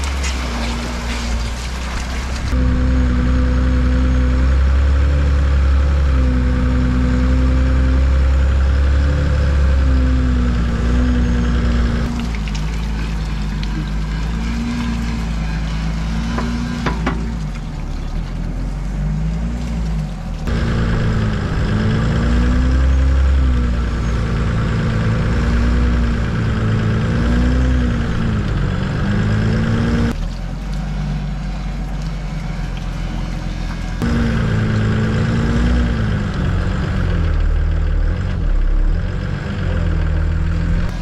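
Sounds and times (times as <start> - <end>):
tracked vehicle engine running: 0.0 - 41.0
vehicle driving through mud and water: 0.0 - 41.0.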